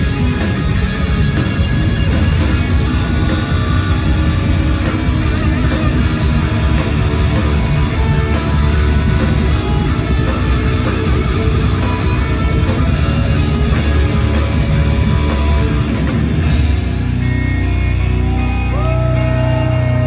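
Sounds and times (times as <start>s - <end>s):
live heavy metal band: 0.0s - 20.0s.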